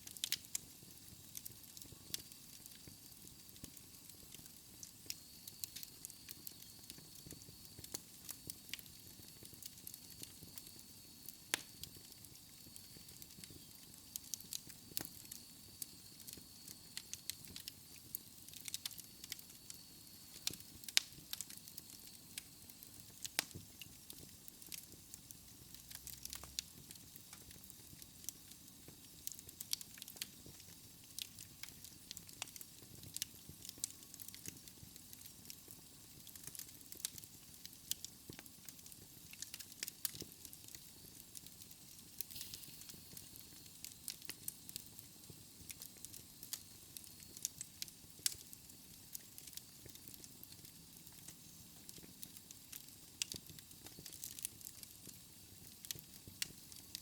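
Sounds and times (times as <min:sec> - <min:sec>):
fire hissing: 0:00.0 - 0:57.0
wood fire crackling and popping: 0:00.0 - 0:57.0.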